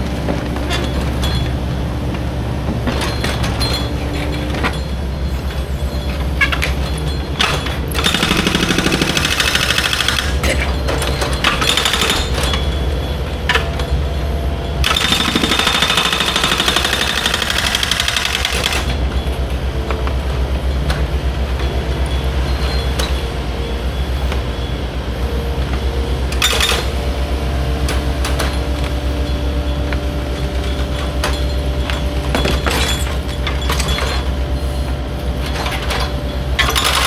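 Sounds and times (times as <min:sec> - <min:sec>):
heavy machinery engine clattering: 0:00.0 - 0:37.0.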